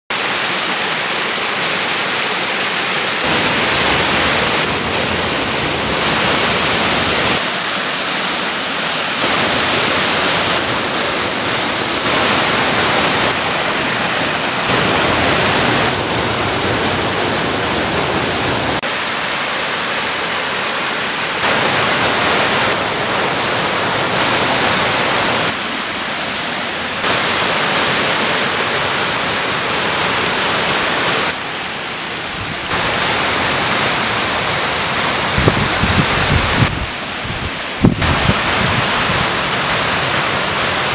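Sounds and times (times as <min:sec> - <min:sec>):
water rushing over dam spillway: 0:00.1 - 0:40.9.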